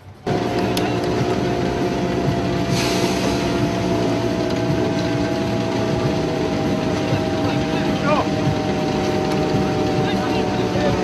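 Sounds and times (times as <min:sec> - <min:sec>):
race car engine idling: 0:00.2 - 0:11.0.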